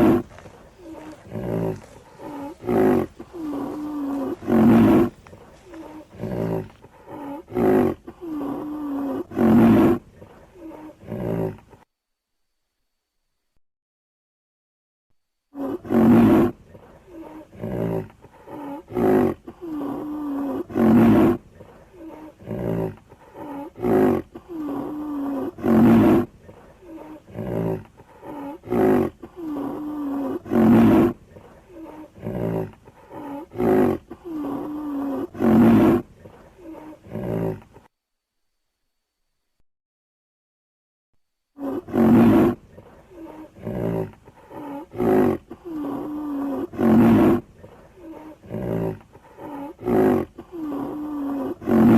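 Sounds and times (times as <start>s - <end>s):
lion grunts: 0.0s - 11.8s, 15.6s - 37.9s, 41.6s - 51.9s
lion roaring: 0.0s - 11.8s, 15.6s - 37.8s, 41.6s - 51.9s.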